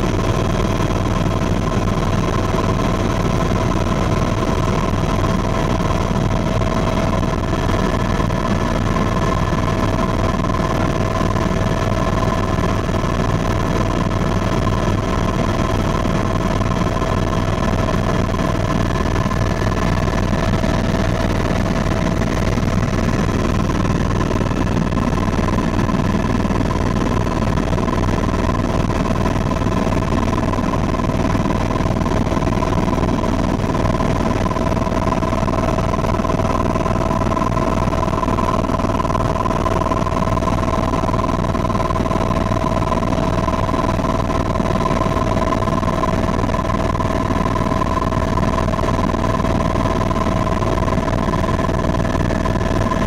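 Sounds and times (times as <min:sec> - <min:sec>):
constant whine: 0:00.0 - 0:53.0
helicopter engine and rotor drone: 0:00.0 - 0:53.0.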